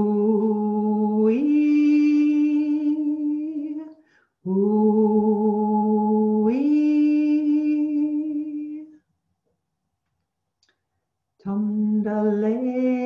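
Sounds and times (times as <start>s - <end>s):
woman singing unaccompanied chant: 0.0s - 8.9s, 11.4s - 13.0s.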